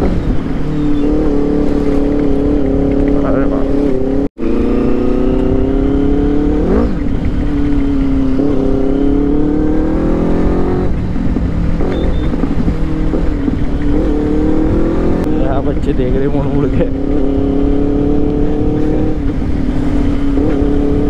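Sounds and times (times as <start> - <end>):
motorcycle engine accelerating: 0.0 - 21.0
wind rush on microphone: 0.0 - 21.0.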